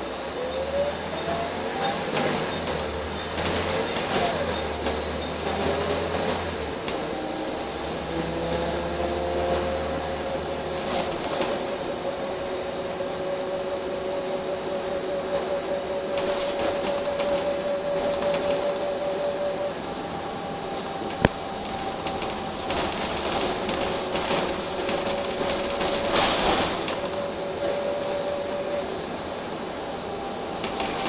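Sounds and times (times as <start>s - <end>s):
bus engine running: 0.0s - 31.0s
road noise: 0.0s - 31.0s.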